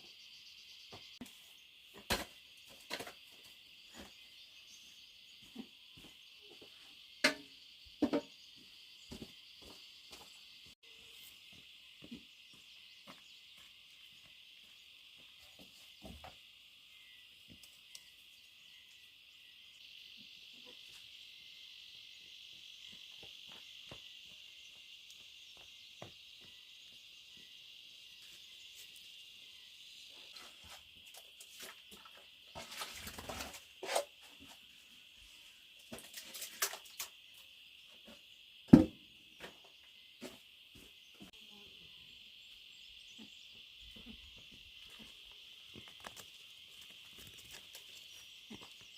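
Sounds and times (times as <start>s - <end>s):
insects chirping chorus: 0.0s - 48.9s.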